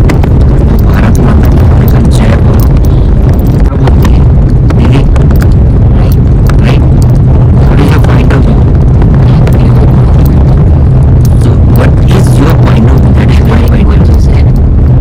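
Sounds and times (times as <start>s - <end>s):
faint clicks and crackles: 0.0s - 15.0s
loud low rumble: 0.0s - 15.0s.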